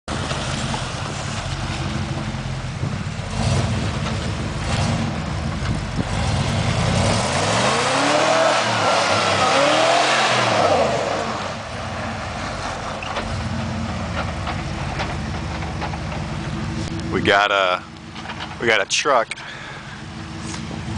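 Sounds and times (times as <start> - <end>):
truck engine revving: 0.1 - 20.9.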